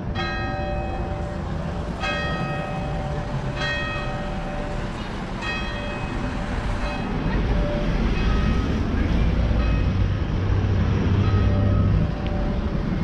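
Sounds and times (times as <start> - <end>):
church bell tolling: 0.0 - 10.3, 11.2 - 12.7
low rumble of street noise: 0.0 - 13.0.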